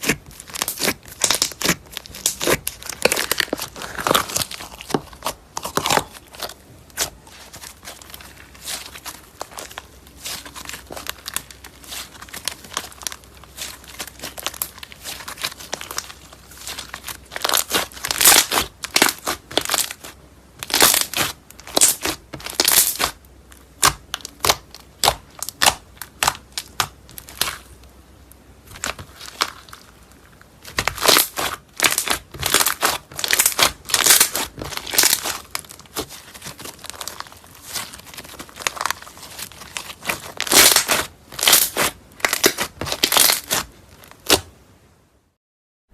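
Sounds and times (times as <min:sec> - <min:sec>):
slime crackling and popping: 0:00.0 - 0:44.5.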